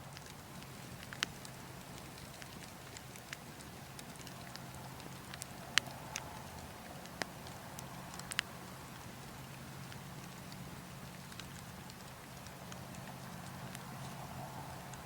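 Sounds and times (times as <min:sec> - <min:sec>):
burning logs crackling: 0:00.0 - 0:15.0
sharp pops from fire: 0:00.1 - 0:14.3.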